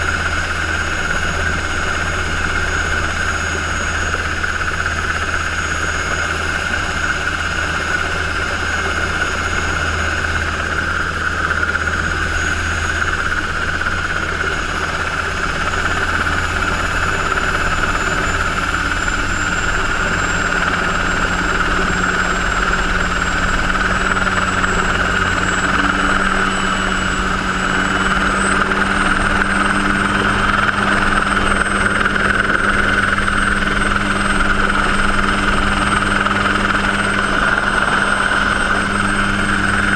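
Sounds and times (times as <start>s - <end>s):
helicopter rotor drone: 0.0s - 39.9s
turbine engine whine: 0.0s - 39.9s.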